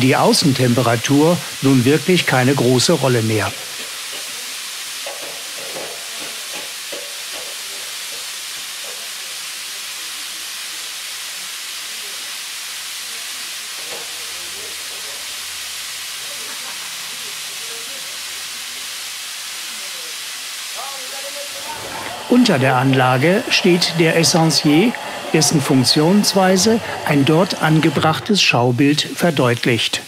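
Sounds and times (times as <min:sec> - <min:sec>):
steam hissing: 0:00.0 - 0:30.0.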